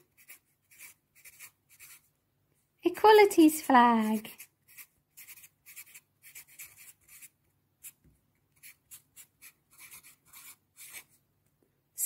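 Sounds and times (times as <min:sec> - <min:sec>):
marker scratching on paper: 0:00.0 - 0:02.1, 0:03.1 - 0:11.2.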